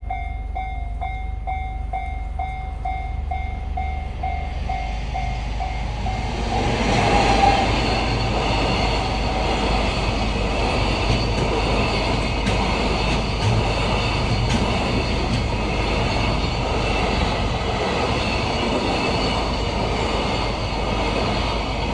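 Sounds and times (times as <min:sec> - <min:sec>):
level crossing warning bell: 0:00.0 - 0:21.9
train passing rumble: 0:00.0 - 0:21.9
train wheels clacking on rails: 0:00.1 - 0:21.9.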